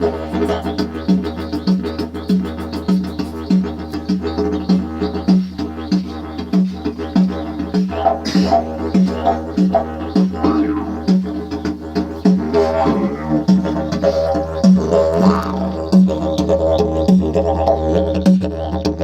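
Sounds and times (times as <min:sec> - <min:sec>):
didgeridoo drone: 0:00.0 - 0:19.0.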